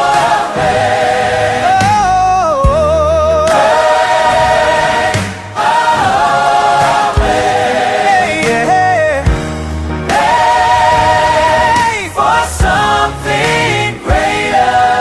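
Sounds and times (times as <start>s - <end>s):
bass: 0.0s - 15.0s
voices holding long notes: 0.0s - 15.0s
worship song: 0.0s - 15.0s
drum hits: 1.8s - 14.6s.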